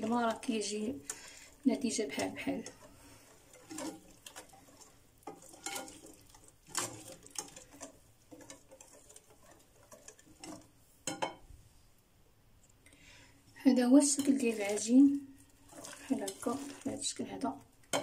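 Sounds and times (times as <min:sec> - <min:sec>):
dough stirred in a bowl: 0:00.0 - 0:11.5, 0:13.4 - 0:18.0.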